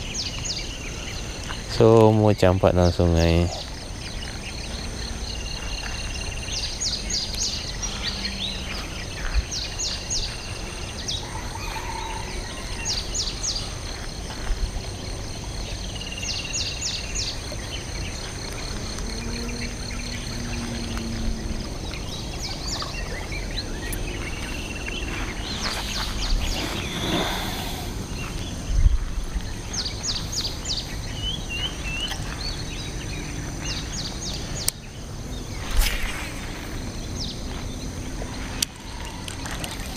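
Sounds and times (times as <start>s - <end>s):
birds calling: 0.0s - 39.9s
high insect drone: 0.0s - 39.9s.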